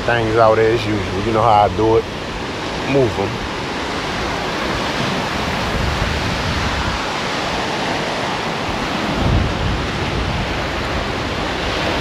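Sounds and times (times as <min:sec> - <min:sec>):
surf breaking on a beach: 0:00.0 - 0:12.0
wind gusting on microphone: 0:00.0 - 0:12.0.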